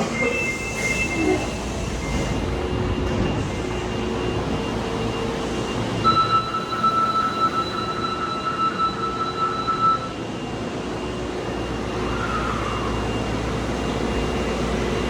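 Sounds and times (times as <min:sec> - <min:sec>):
low station rumble: 0:00.0 - 0:15.0
high electronic warning tone: 0:00.1 - 0:15.0.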